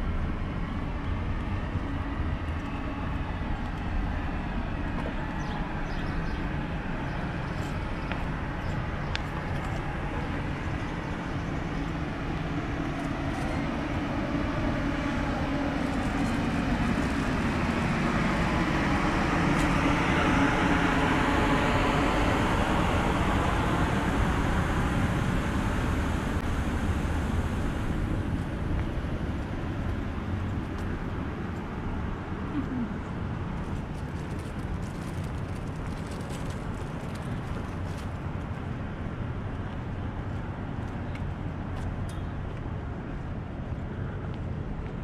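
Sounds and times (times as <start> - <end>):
passing vehicle rumbling: 0.0 - 42.0.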